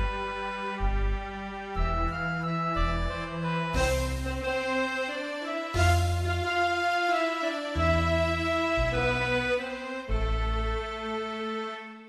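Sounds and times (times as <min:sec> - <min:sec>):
deep bass: 0:00.0 - 0:07.2, 0:07.8 - 0:11.2.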